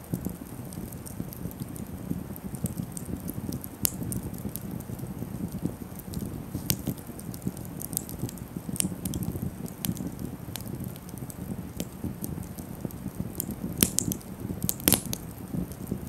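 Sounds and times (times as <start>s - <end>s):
fire crackling and popping: 0.0s - 16.0s
flames fluttering: 0.0s - 16.0s.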